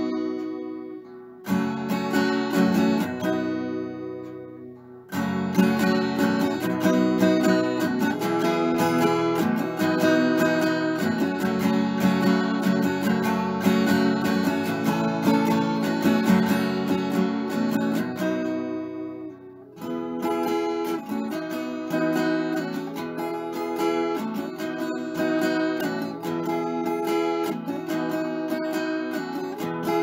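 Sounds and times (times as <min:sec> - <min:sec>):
strummed acoustic guitar: 0:00.0 - 0:30.0.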